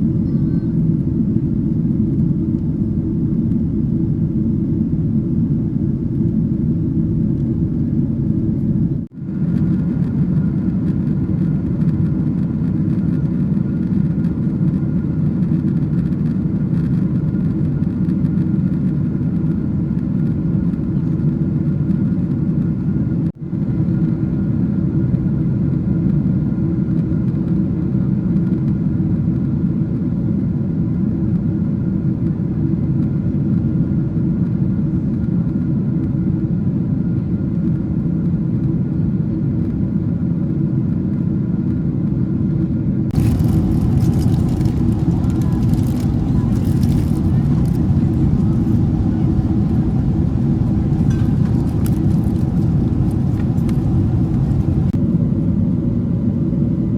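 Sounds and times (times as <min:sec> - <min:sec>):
airplane cabin drone: 0:00.0 - 0:28.9, 0:30.5 - 0:56.9.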